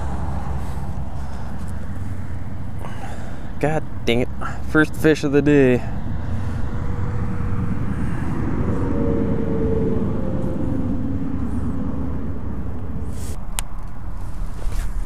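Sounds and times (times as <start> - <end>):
faint engine drone: 0.0 - 15.0
wind buffeting microphone: 0.0 - 15.0.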